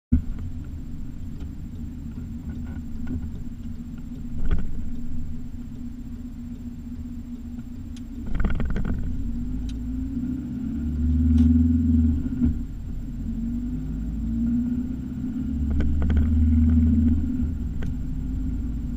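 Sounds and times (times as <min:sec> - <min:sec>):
car engine and tyre rumble: 0:00.1 - 0:18.9.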